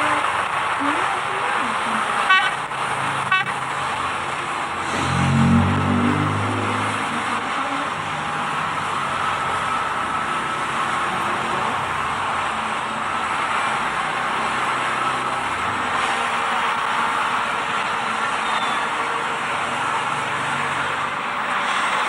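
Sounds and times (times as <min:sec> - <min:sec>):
heavy machinery running: 0:00.0 - 0:22.0.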